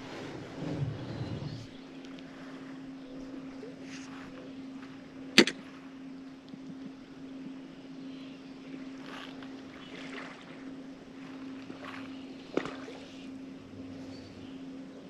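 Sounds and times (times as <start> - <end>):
soft water swishes: 0.0 - 15.0
steady low hum: 0.0 - 15.0.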